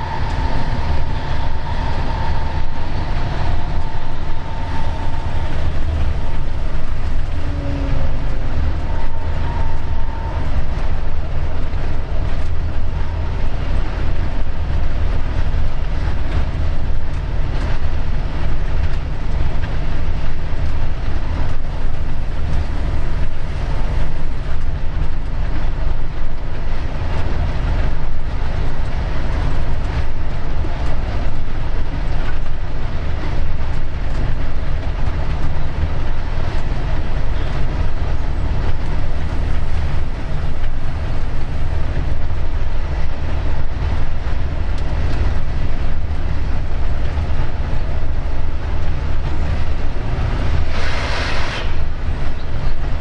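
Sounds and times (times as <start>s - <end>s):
locomotive engine drone: 0.0s - 53.0s
train wheels rolling on rails: 0.0s - 53.0s.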